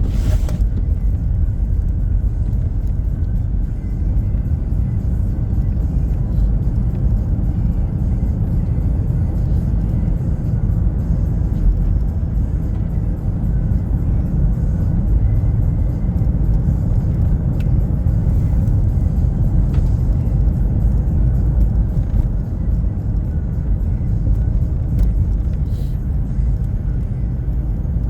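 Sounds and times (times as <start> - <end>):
car road and engine rumble: 0.0 - 28.0
music playing: 0.2 - 28.0.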